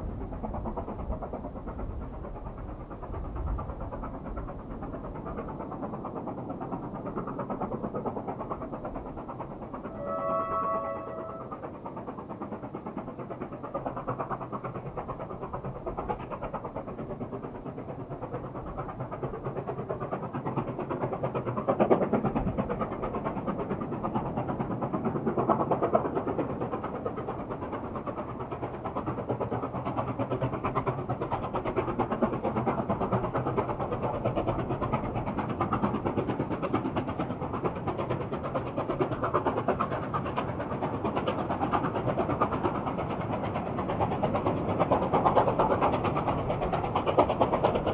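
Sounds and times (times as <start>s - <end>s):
steam locomotive exhaust beats: 0.0s - 47.9s.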